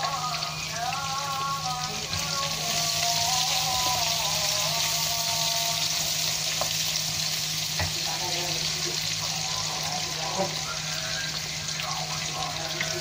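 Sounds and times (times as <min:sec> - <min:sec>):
distant sung call to prayer: 0:00.0 - 0:06.4, 0:09.0 - 0:13.0
food sizzling in hot oil: 0:00.0 - 0:13.0.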